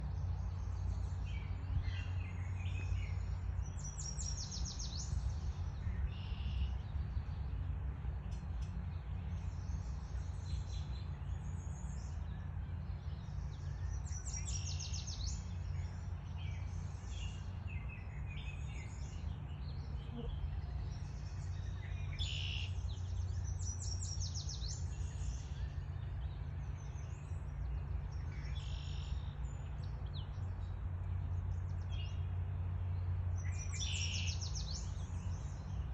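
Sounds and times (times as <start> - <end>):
birds singing and trilling: 0.0 - 35.9
steady low rumble: 0.0 - 35.9.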